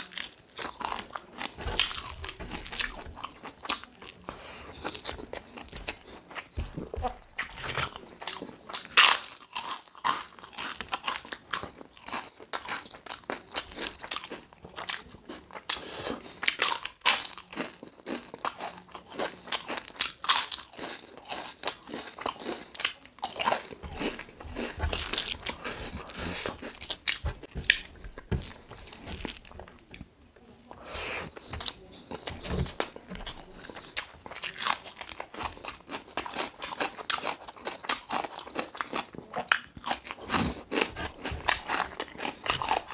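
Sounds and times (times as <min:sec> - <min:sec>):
chewing and biting food: 0:00.0 - 0:42.9
mouth clicks and crunches: 0:00.0 - 0:42.9.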